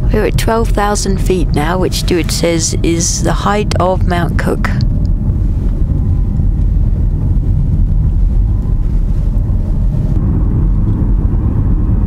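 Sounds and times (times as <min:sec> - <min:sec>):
car driving heard from cabin: 0:00.0 - 0:12.0.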